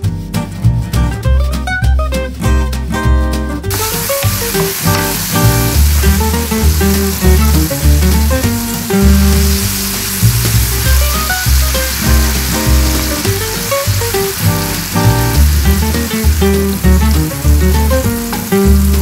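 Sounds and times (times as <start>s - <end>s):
background music with bass line: 0.0s - 19.0s
oil sizzling in a skillet: 3.7s - 19.0s.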